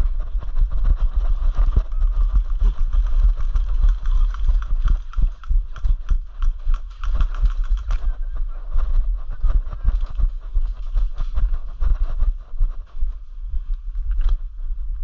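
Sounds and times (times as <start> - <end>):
microphone handling rumble: 0.0 - 15.0.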